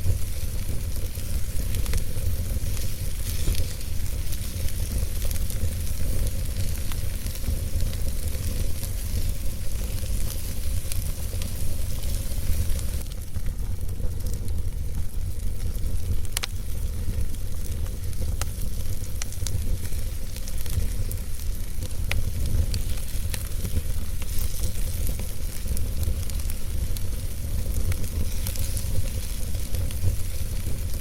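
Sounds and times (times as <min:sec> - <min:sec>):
flames rumbling and hissing: 0:00.0 - 0:31.0
wood fire crackling and popping: 0:00.0 - 0:31.0.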